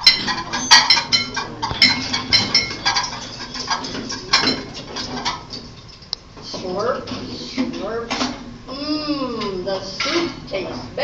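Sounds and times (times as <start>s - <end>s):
dishes and silverware clattering: 0.0s - 8.4s, 9.4s - 10.5s.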